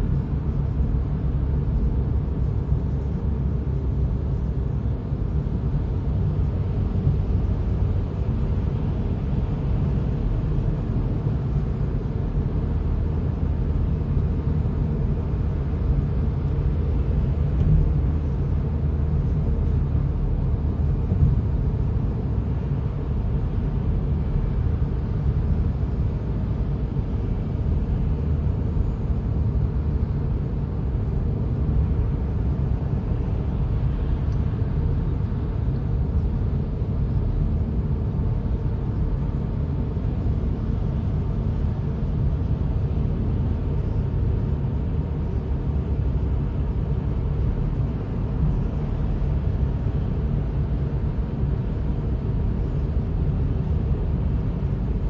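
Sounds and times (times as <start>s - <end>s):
car driving road noise: 0.0s - 55.0s.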